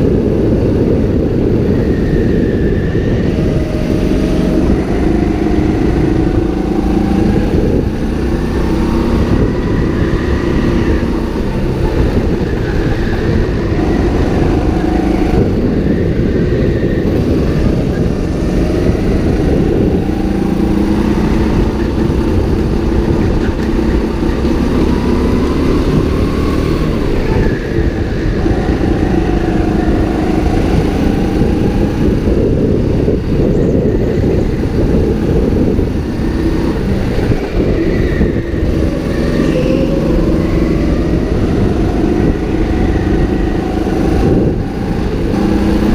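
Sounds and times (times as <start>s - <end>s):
go-kart engine revving: 0.0s - 45.9s.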